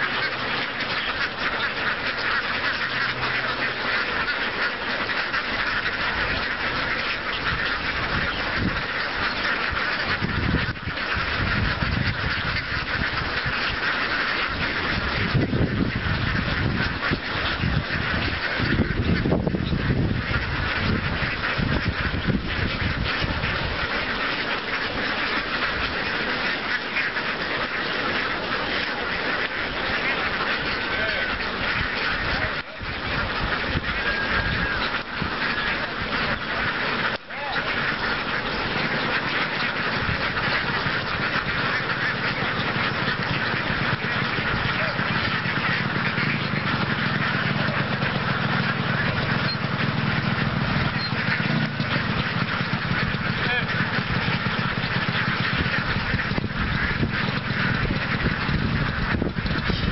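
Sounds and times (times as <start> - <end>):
ducks quacking: 0.0 - 59.9.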